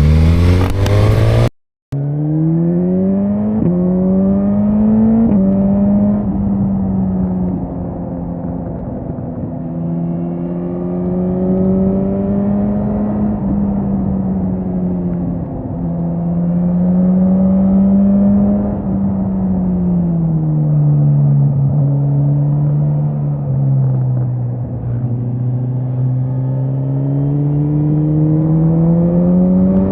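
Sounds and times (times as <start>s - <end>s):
motorcycle engine revving: 0.0s - 8.4s, 9.4s - 20.4s, 24.8s - 29.9s.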